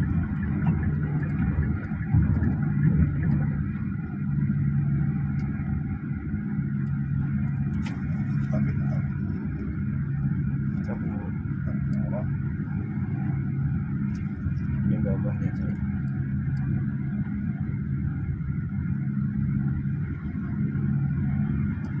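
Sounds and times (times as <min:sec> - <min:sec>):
van road and engine rumble: 0:00.0 - 0:22.0.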